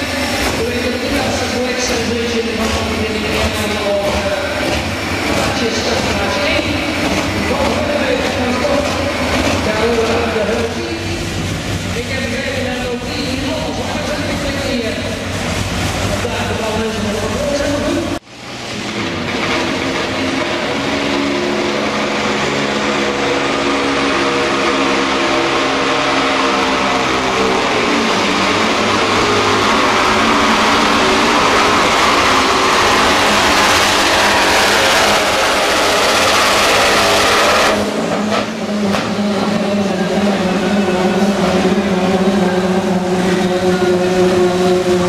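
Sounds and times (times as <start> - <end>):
diesel truck engine roaring: 0.0 - 45.0.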